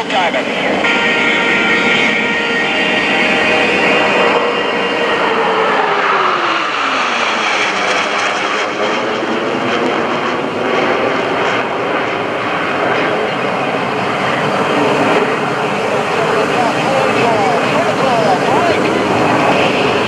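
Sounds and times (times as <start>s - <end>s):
jet engines flying past: 0.0s - 20.0s.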